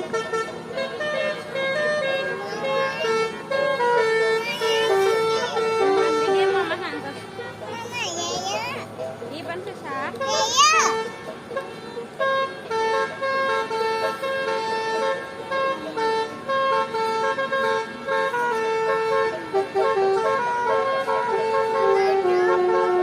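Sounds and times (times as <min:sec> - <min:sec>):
musical horn playing a tune: 0:00.0 - 0:07.0, 0:10.1 - 0:23.0.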